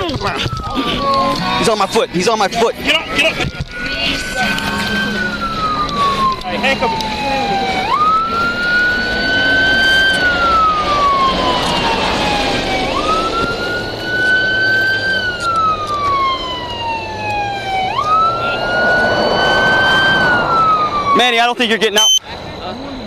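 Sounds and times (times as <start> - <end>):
emergency siren wailing: 0.0 - 23.0.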